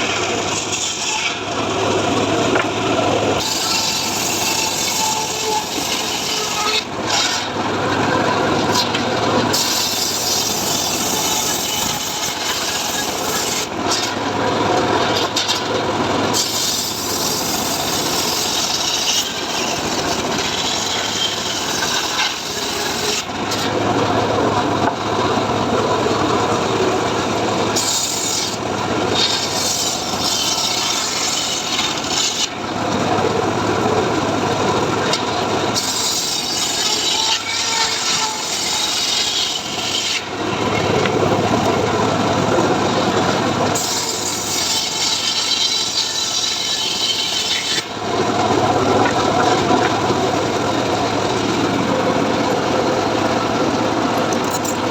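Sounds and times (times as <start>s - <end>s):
saw blade cutting wood: 0.0s - 2.6s, 3.4s - 25.0s, 25.9s - 33.4s, 34.9s - 41.9s, 42.8s - 48.0s
sawmill engine running: 0.0s - 54.9s.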